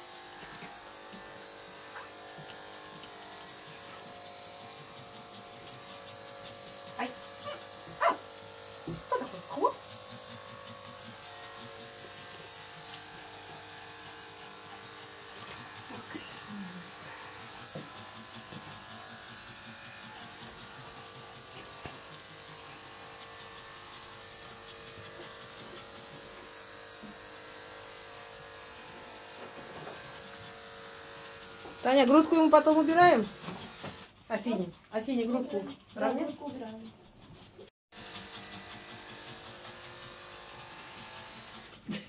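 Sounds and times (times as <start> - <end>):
electric motor humming: 0.0 - 34.1, 38.0 - 41.8
brush scratching fur: 0.0 - 41.8.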